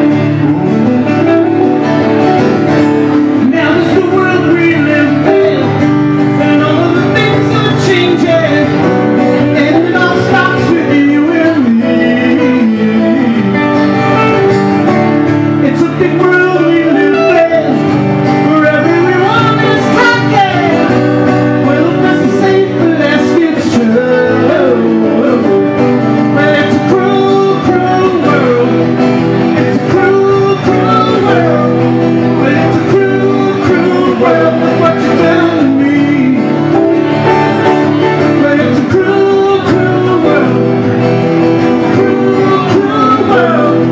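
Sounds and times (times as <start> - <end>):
acoustic guitar strumming: 0.0 - 43.9
electric guitar playing: 0.0 - 43.9
man singing: 0.0 - 43.9.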